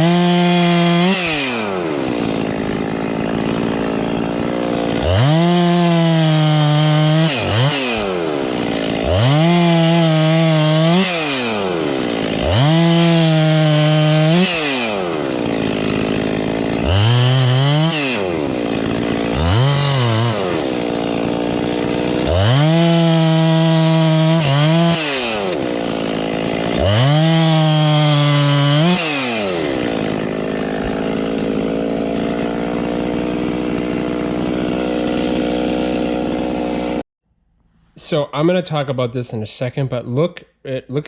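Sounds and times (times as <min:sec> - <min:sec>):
chainsaw revving: 0:00.0 - 0:37.0.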